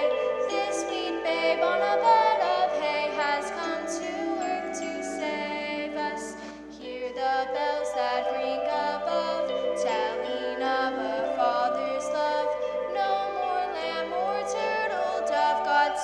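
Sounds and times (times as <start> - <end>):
held accompanying notes: 0.0 - 16.0
women singing in small choir: 0.0 - 16.0.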